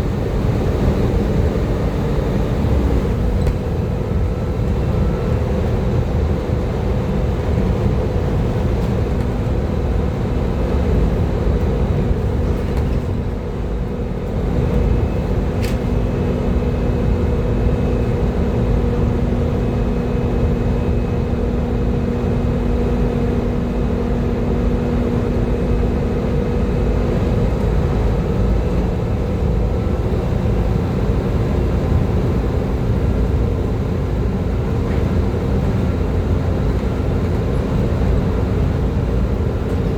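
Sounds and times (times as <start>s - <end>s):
bus diesel engine whining: 0.0s - 39.9s.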